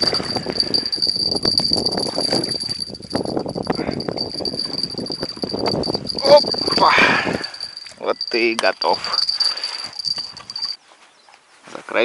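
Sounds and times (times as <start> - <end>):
fishing reel clicking: 0.0 - 10.8.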